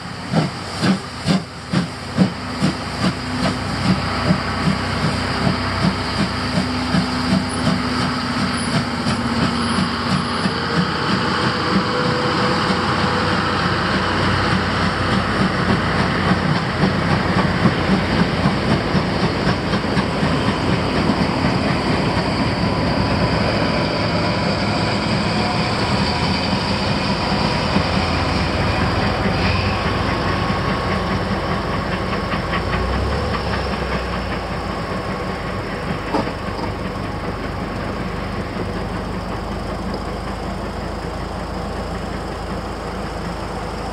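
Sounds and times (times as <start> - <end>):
steam locomotive chuffing: 0.0 - 43.9
train wheels clattering on rails: 0.0 - 43.9.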